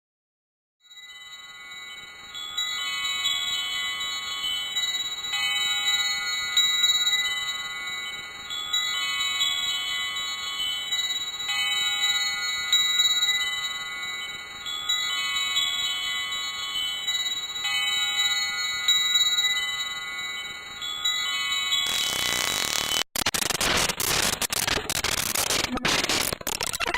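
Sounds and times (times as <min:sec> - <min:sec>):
chimes ringing: 0:00.9 - 0:23.0.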